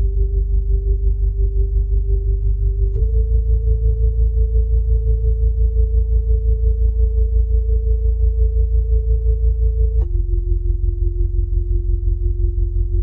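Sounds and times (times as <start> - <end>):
deep pulsing hum: 0.0 - 13.0.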